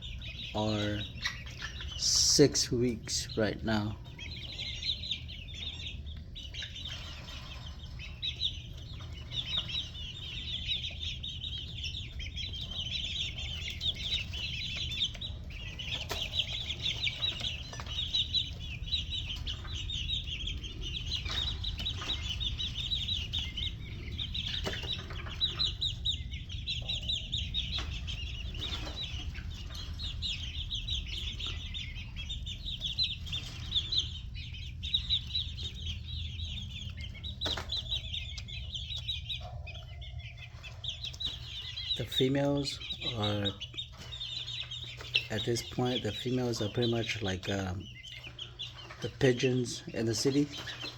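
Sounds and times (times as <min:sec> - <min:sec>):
chicks peeping: 0:00.0 - 0:50.9.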